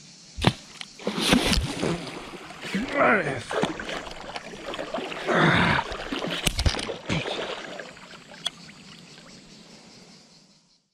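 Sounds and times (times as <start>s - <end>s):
water splashing and sloshing: 0.4s - 9.6s.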